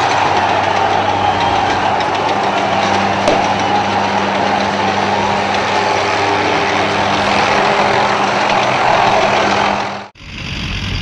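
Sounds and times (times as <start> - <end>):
large crowd noise: 0.0 - 10.2
tank engine running: 0.0 - 11.0.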